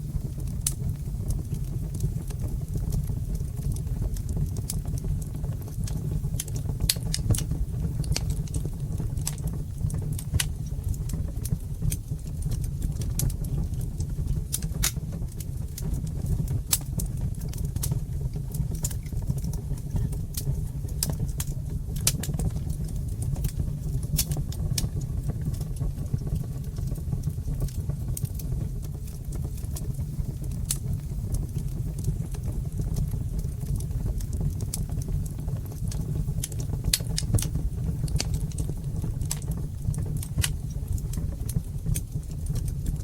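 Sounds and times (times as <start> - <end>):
fire crackling: 0.0 - 43.0
low rumble of burning: 0.0 - 43.0
sharp pops and snaps: 0.3 - 43.0.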